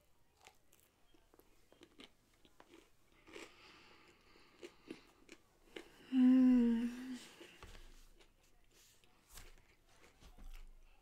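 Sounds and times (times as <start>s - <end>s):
soft wet chewing: 0.0s - 6.2s, 6.8s - 11.0s.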